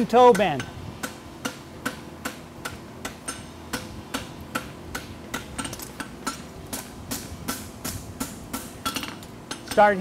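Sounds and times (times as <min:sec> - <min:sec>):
hammer striking metal on anvil: 0:00.2 - 0:10.0.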